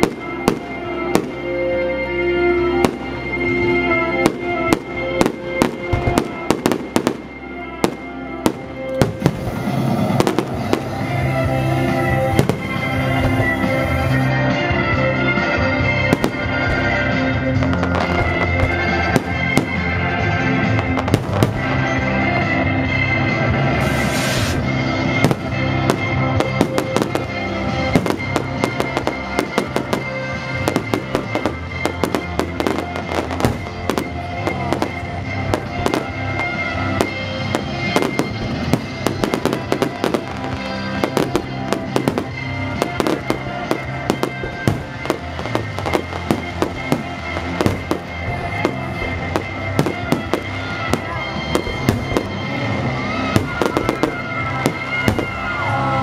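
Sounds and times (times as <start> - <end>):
fireworks bangs and crackling: 0.0 - 56.0
music playing: 0.0 - 56.0.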